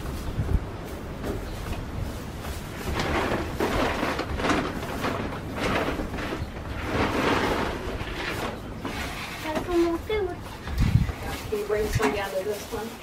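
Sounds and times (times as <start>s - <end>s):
footsteps in dry straw: 0.0s - 13.0s
wind rumble on microphone: 0.0s - 13.0s.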